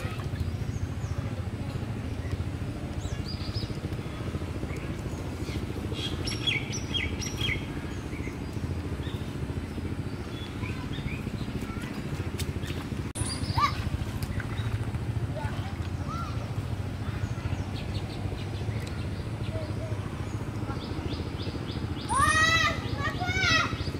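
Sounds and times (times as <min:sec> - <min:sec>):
birds chirping: 0:00.0 - 0:23.9
steady low rumble: 0:00.0 - 0:23.9.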